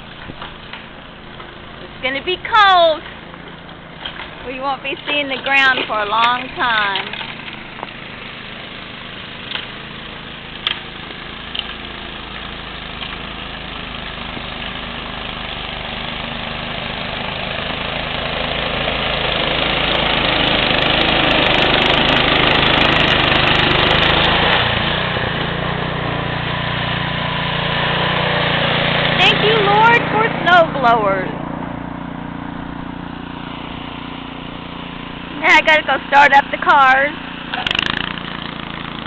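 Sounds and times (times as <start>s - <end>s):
snowblower engine running: 0.0s - 39.0s.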